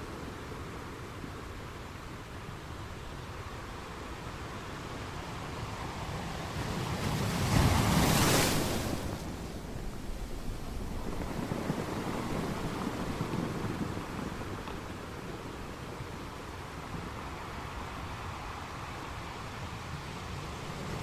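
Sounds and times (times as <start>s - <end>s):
waves crashing against rocks: 3.6s - 21.0s.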